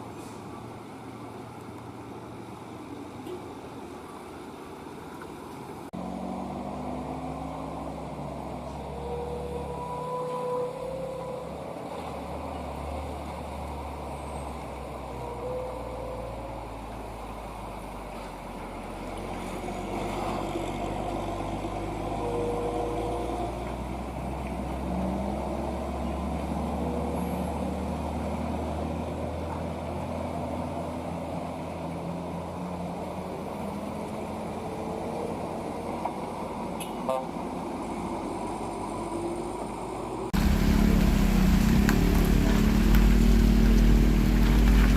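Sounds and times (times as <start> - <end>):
heavy truck engines running: 6.0 - 44.9.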